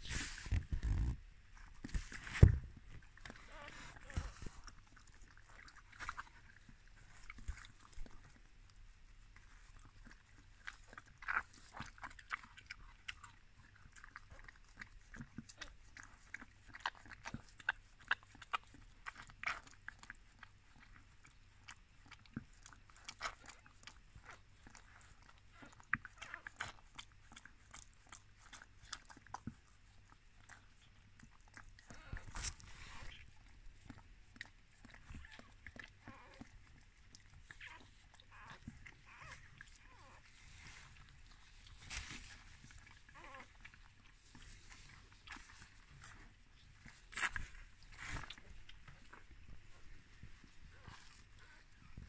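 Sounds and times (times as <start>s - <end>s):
rustle: 0.0s - 21.1s, 21.7s - 52.0s
dog licking and chewing: 0.3s - 52.0s.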